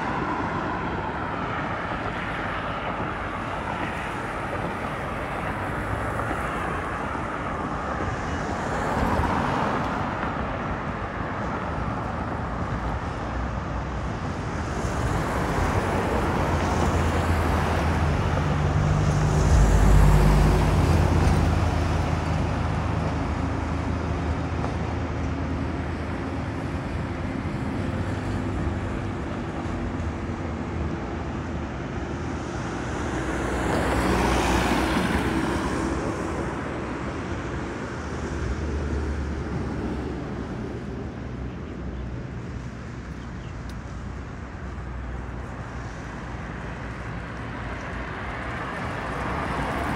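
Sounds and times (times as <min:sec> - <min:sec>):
steady traffic rush: 0:00.0 - 0:49.9
vehicles passing: 0:00.0 - 0:49.9.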